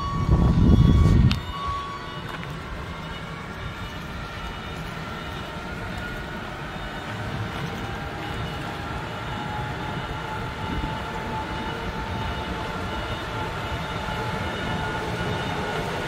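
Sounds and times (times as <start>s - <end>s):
forklift engine rumbling: 0.0s - 16.0s.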